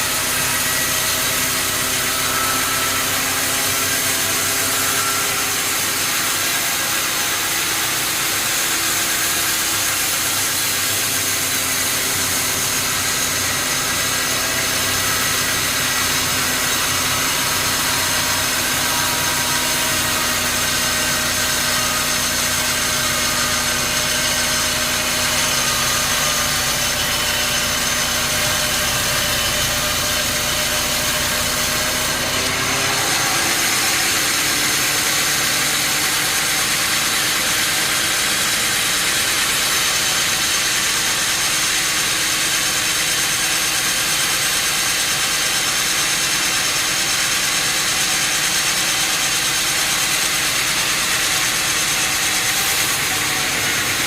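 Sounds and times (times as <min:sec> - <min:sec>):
sawmill machinery hum and whine: 0:00.0 - 0:54.0.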